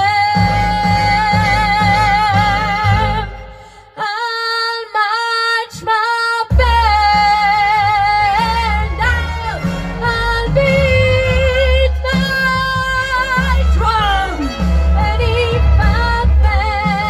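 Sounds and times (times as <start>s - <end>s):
backing track bass and beat: 0.0s - 3.6s, 6.5s - 17.0s
girl singing into a microphone: 0.0s - 17.0s.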